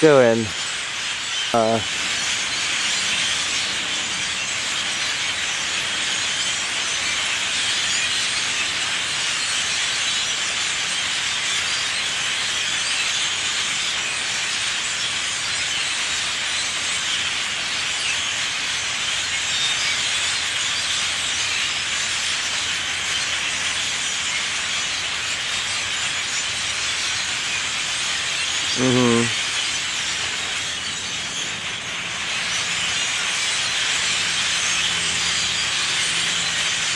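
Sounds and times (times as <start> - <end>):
flock of birds chattering: 0.0 - 36.9.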